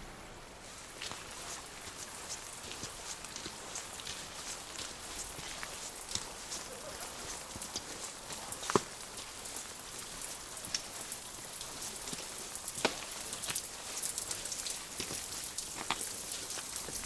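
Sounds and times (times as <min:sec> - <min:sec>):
rain falling with steady hiss: 0:00.0 - 0:17.0.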